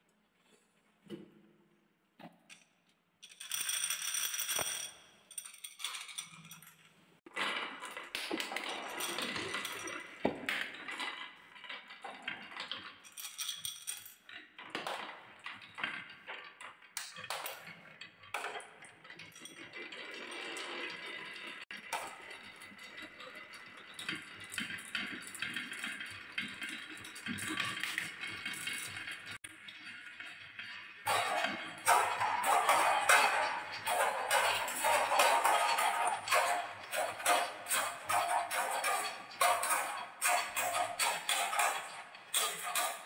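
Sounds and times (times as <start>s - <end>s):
balls clattering down wooden tracks: 2.2s - 43.0s.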